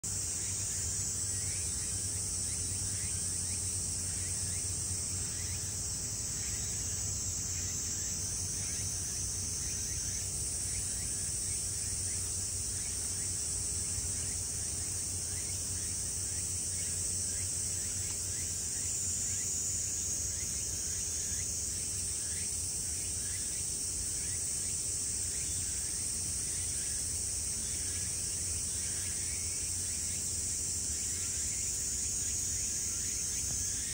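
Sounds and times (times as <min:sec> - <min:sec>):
insects trilling: 0:00.0 - 0:33.9.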